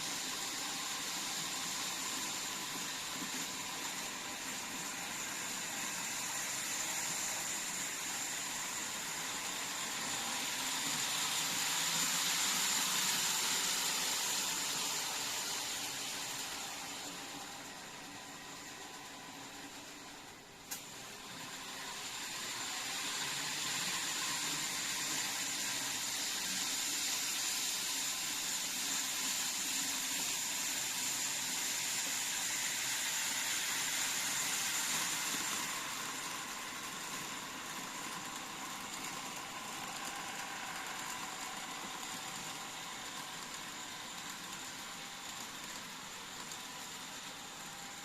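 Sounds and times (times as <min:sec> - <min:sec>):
model train motor whirring: 0:00.0 - 0:48.0.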